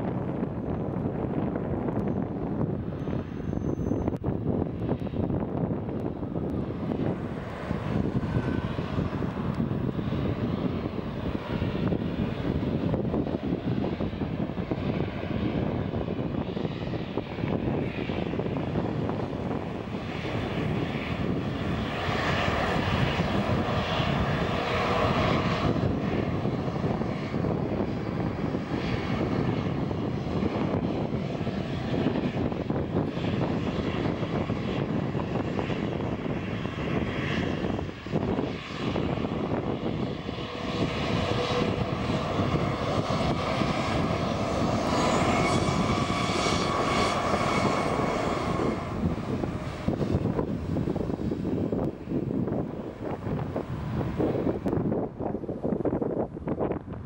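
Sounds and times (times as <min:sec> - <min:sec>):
jet engines rumbling with whine: 0:00.0 - 0:57.0.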